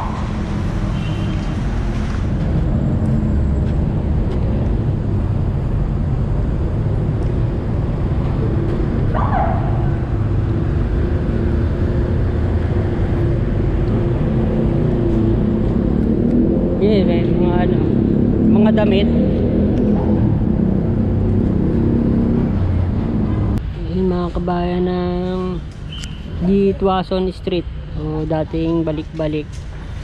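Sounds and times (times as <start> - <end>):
heavy road traffic rumble: 0.0 - 30.0.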